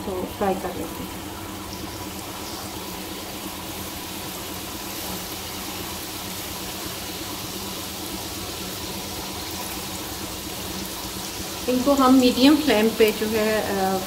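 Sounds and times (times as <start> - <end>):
oil sizzling and bubbling: 0.0 - 14.0.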